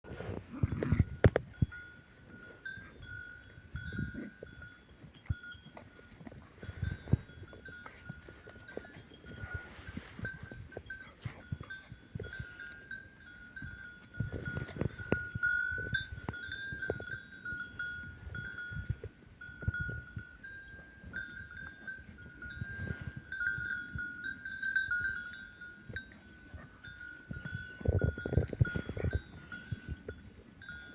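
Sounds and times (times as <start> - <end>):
bells ringing: 1.1 - 30.9.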